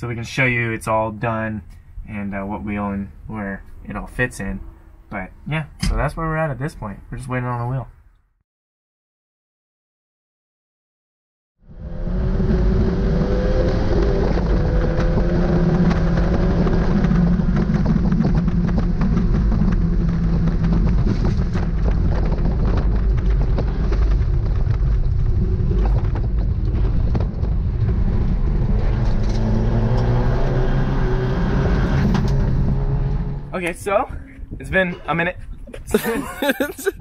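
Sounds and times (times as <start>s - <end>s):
road and wind noise: 0.0s - 8.2s, 11.6s - 37.0s.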